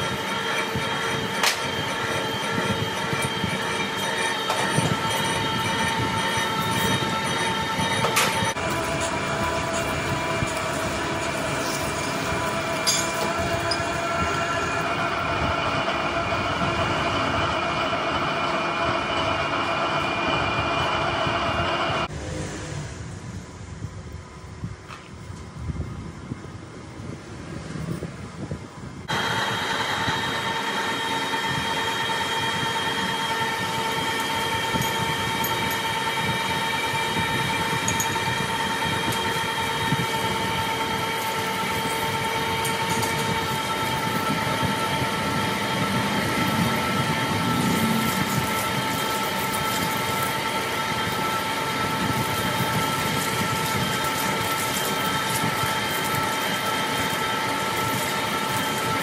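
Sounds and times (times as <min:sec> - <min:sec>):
lathe grinding metal: 0:00.0 - 0:22.1, 0:29.1 - 0:59.0.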